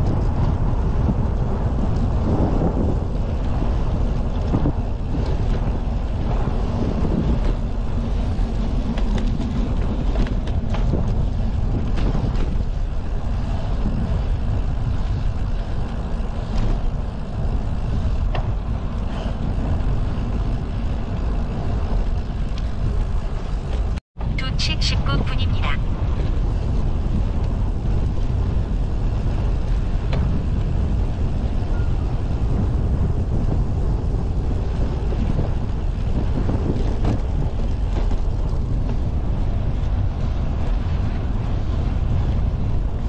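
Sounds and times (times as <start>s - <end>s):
bicycle knocks and rattles: 0.0s - 24.0s, 26.3s - 41.2s
bicycle tyre noise on pavement: 0.0s - 24.0s, 25.8s - 43.0s
wind buffeting microphone: 0.0s - 43.0s.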